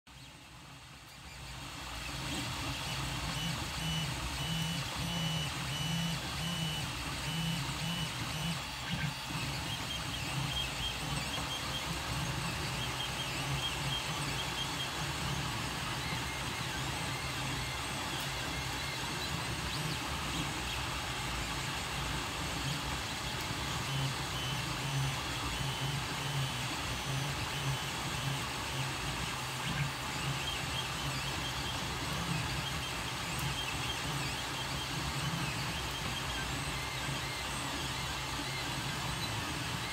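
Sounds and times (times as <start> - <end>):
stepper motor tones: 0.3 - 39.9.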